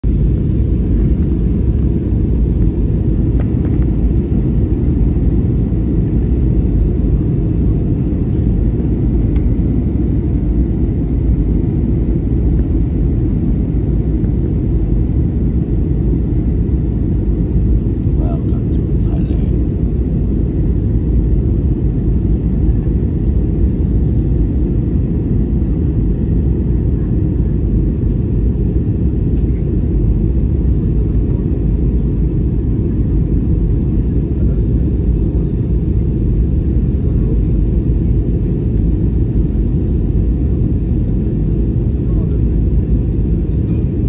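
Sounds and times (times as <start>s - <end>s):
jet airliner cabin rumble: 0.0s - 44.0s.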